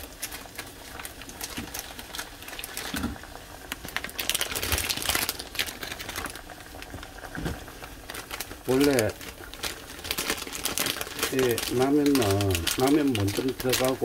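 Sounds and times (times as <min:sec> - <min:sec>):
water boiling and bubbling in pot: 0:00.0 - 0:14.0.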